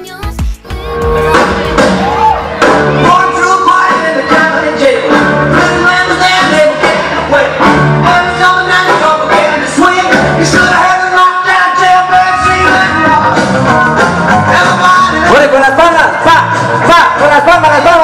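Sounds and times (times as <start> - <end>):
loud music with singing: 0.0 - 18.0.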